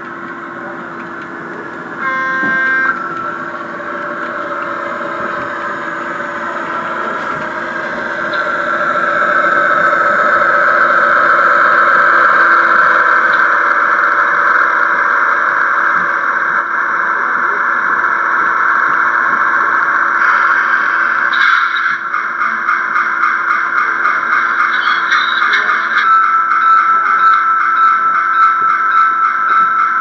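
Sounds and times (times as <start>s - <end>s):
model railcar humming: 0.0s - 30.0s.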